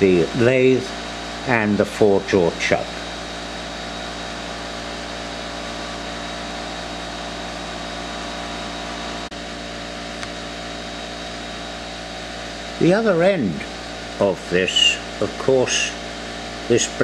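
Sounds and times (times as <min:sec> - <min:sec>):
steady machine tones: 0:00.0 - 0:17.0
workshop equipment hum and hiss: 0:00.0 - 0:17.0.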